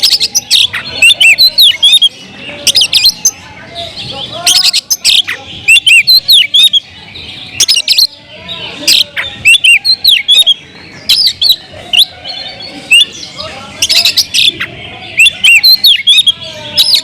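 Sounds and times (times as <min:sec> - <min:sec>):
bird singing chirps and whistles: 0:00.0 - 0:17.0.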